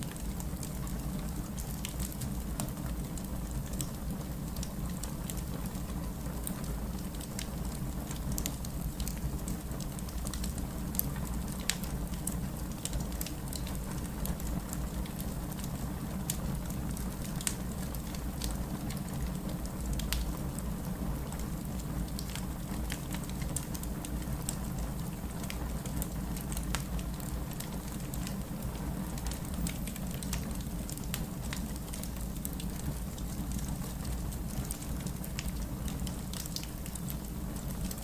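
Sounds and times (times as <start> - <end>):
wood fire crackling in fireplace: 0.0 - 38.0.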